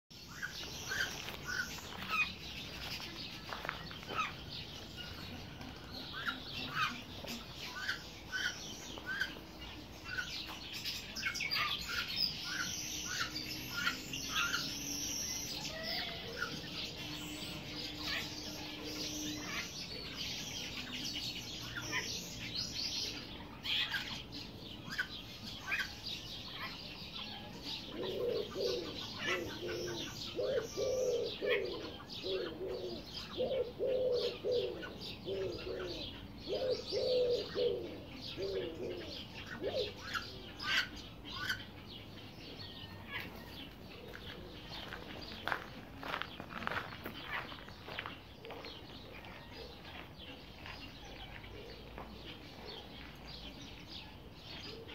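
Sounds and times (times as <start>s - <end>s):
small birds chirping: 0.1s - 54.9s.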